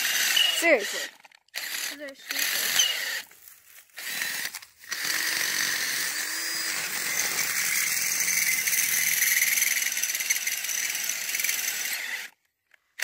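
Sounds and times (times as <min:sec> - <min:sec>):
cordless drill driving screw: 0:00.0 - 0:12.4.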